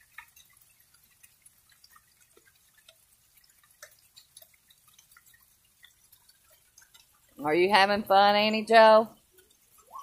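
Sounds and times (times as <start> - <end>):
rain dripping and pattering: 0.0 - 10.0.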